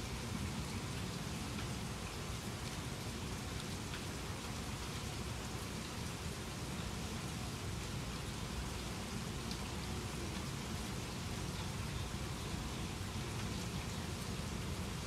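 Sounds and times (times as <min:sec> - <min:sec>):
raindrops ticking close by: 0:00.0 - 0:15.0
steady rain falling: 0:00.0 - 0:15.0.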